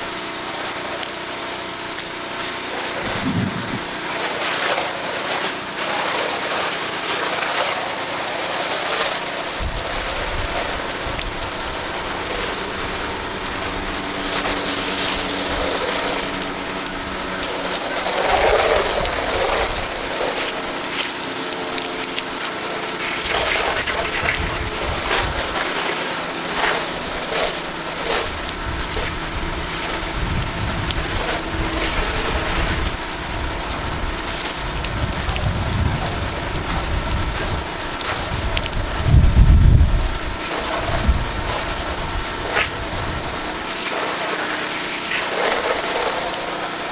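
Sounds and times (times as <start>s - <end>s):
machine humming: 0.0s - 46.9s
pressure washer spraying water: 0.0s - 46.9s.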